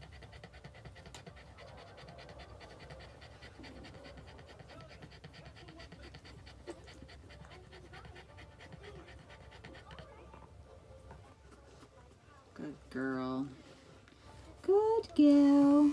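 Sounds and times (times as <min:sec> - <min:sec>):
dog panting: 0:00.0 - 0:15.9.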